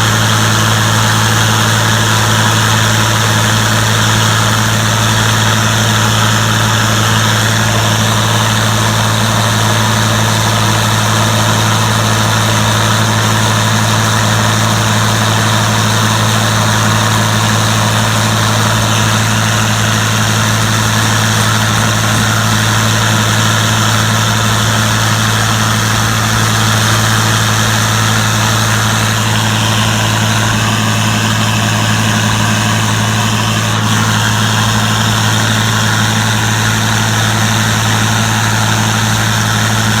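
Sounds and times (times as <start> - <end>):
combine engine humming: 0.0 - 40.0.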